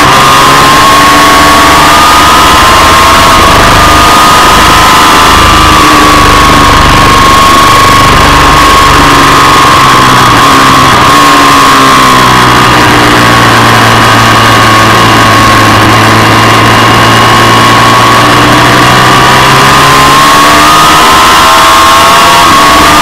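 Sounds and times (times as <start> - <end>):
loud rushing noise: 0.0 - 23.0
motorcycle engine at high revs: 0.0 - 23.0.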